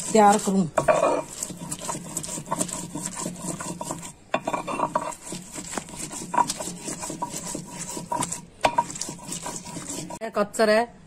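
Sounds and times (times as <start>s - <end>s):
stone scraping on stone slab: 0.0s - 10.2s.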